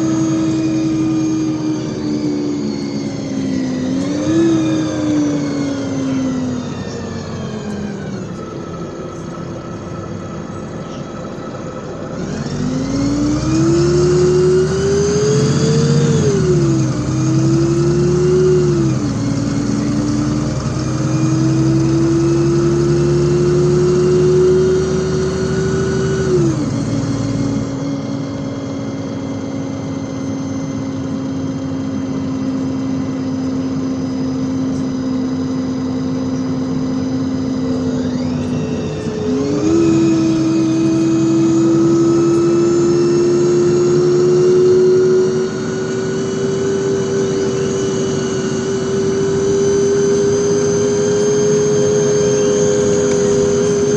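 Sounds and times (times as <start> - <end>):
bus engine accelerating: 0.0 - 53.9.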